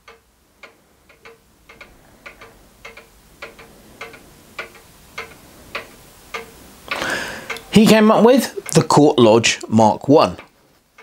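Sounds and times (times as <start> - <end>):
mechanical clock ticking: 0.0 - 11.0.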